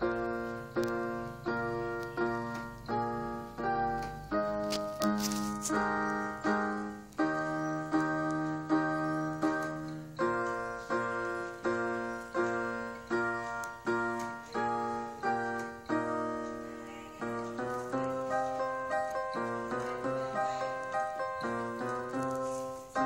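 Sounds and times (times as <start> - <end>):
keyboard playing piano chords: 0.0 - 23.0.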